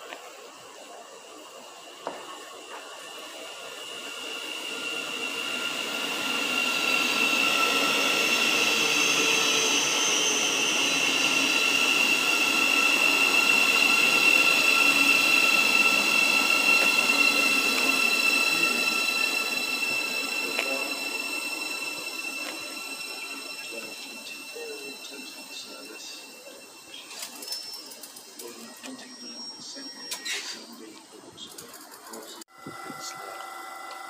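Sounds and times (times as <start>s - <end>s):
electric traction whine: 0.0s - 34.0s
train wheels rumbling on rail: 2.0s - 30.8s.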